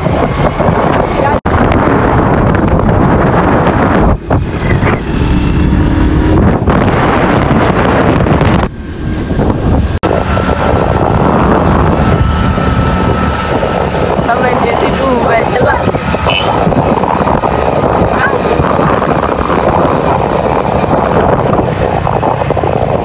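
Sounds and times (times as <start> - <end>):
motorcycle engine running: 0.0 - 23.0
wind rumble on microphone: 0.0 - 23.0.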